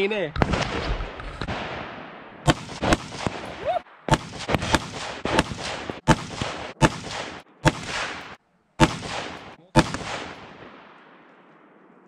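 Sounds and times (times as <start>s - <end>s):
rifle shots with echo: 0.3s - 12.0s.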